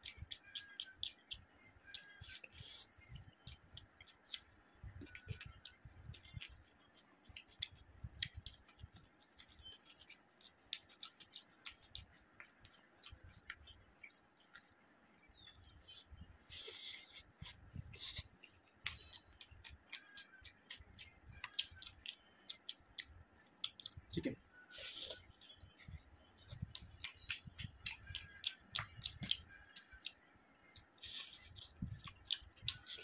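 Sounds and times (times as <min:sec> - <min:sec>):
chewing mouth clicks and smacks: 0:00.0 - 0:33.0.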